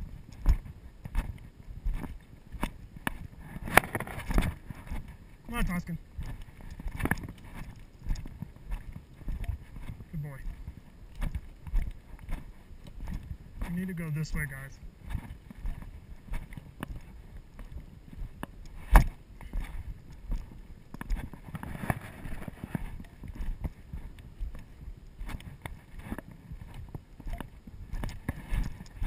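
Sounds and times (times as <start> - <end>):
footsteps on rocky dirt trail: 0.0 - 29.0.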